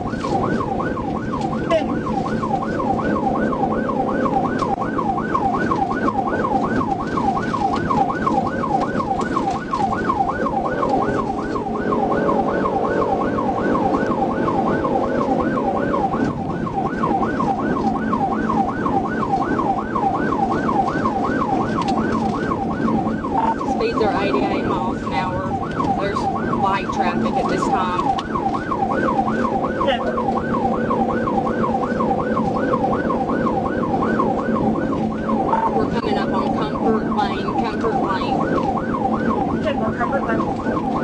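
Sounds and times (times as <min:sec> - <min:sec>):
car engine and road noise: 0:00.0 - 0:41.0
police siren yelp: 0:00.0 - 0:41.0
steady lower siren tone: 0:00.0 - 0:41.0.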